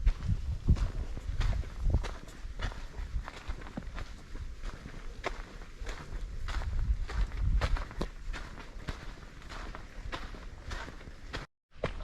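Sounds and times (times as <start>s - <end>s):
hiker footsteps crunching: 0.0s - 12.0s.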